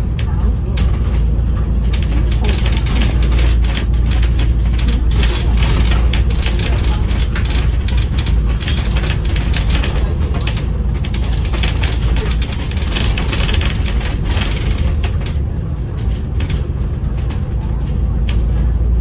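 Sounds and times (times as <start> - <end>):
bus engine and road rumble: 0.0 - 19.0
light rattles: 0.2 - 18.8.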